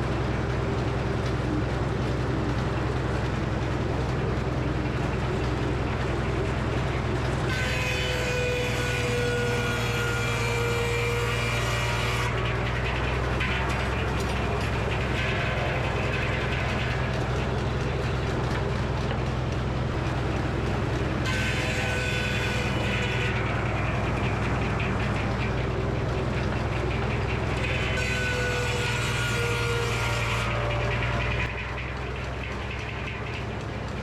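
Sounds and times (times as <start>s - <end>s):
sawmill drive hum: 0.0s - 34.0s
circular saw cutting wood: 4.5s - 34.0s.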